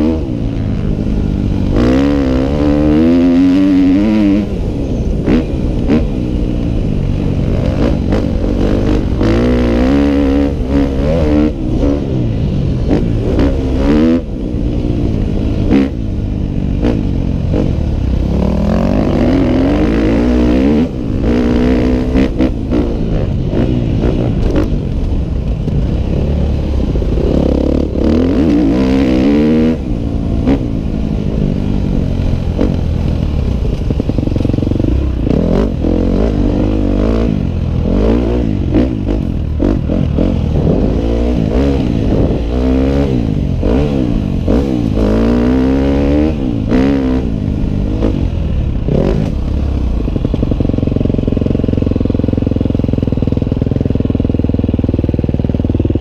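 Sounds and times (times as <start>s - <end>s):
dirt bike engine revving: 0.0s - 6.3s, 7.0s - 25.0s, 25.8s - 52.7s.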